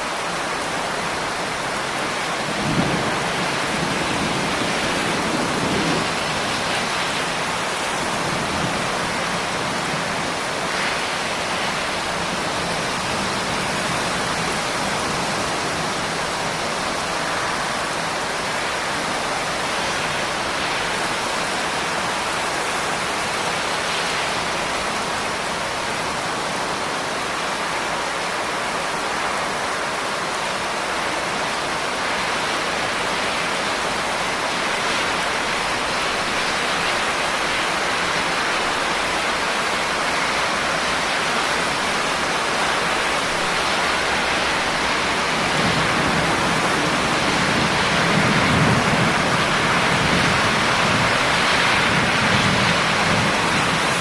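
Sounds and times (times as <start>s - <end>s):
dense rainfall hiss: 0.0s - 54.0s.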